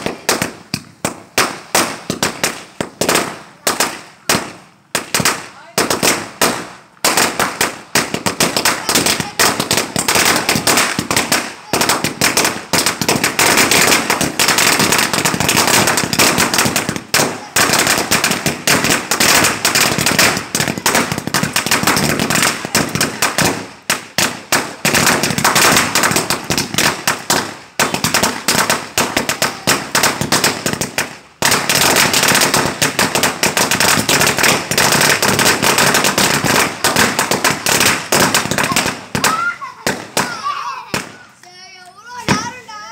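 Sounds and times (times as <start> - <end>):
firecrackers crackling: 0.0 - 42.9.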